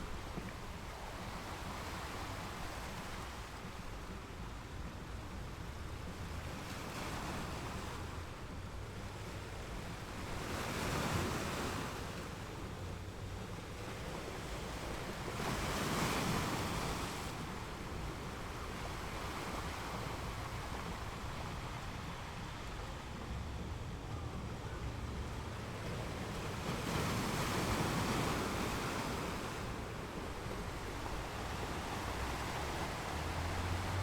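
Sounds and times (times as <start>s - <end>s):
low rumble of surf: 0.0s - 34.0s
ocean waves breaking: 0.0s - 34.0s.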